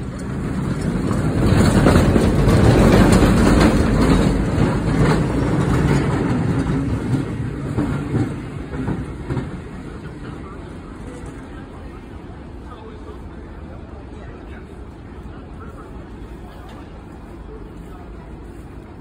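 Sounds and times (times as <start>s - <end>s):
streetcar wheels rumbling on rails: 0.0s - 19.0s.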